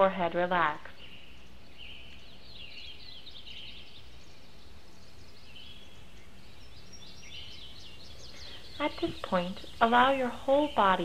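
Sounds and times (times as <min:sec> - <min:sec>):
low background hum: 0:00.0 - 0:11.0
songbirds chirping: 0:00.0 - 0:11.0.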